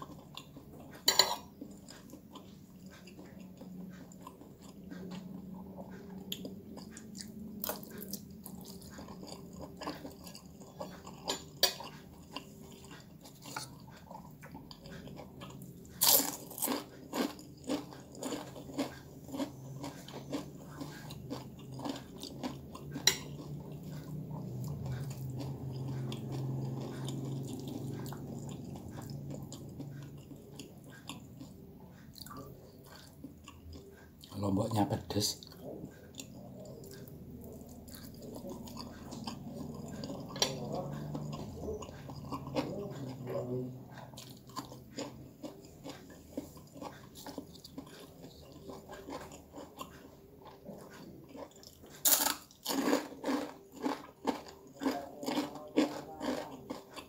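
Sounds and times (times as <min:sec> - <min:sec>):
man chewing noodles: 0:00.0 - 0:57.0.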